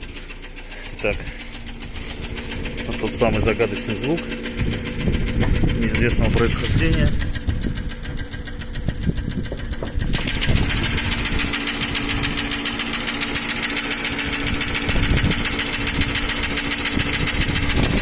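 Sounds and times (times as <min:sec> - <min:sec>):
car engine idling: 0:00.0 - 0:18.0
engine valve ticking knock: 0:00.0 - 0:18.0.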